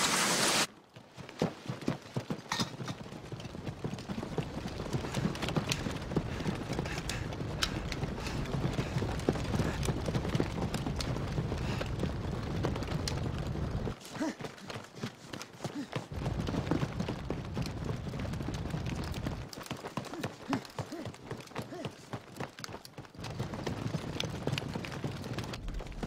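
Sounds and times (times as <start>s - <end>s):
many footsteps running: 0.7s - 26.0s
equipment rattling and knocking: 1.5s - 26.0s.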